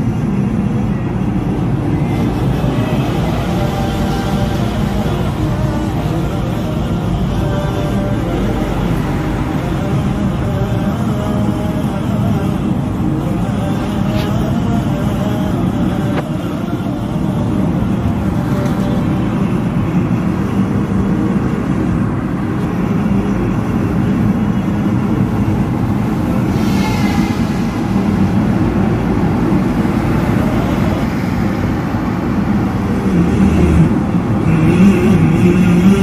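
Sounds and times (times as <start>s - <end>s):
car cabin road and engine noise: 0.0s - 36.0s.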